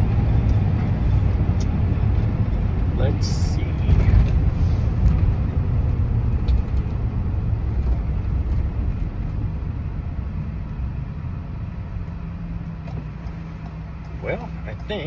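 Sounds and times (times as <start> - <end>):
road and engine rumble: 0.0 - 15.0.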